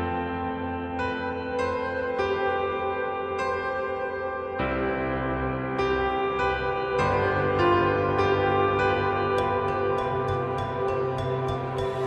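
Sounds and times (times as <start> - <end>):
soft slow ambient music: 0.0 - 12.0.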